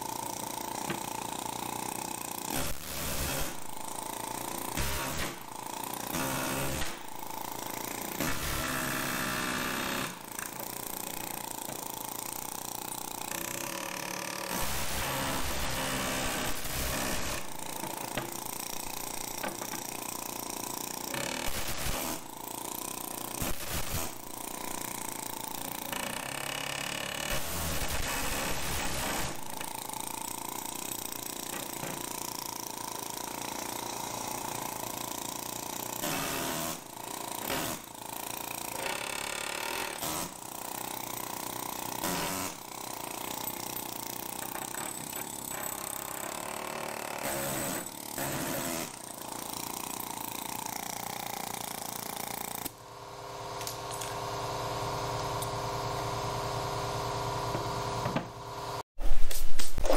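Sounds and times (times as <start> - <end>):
steady motor hum: 0.0 - 48.3
pneumatic air hammer chattering: 0.0 - 52.8.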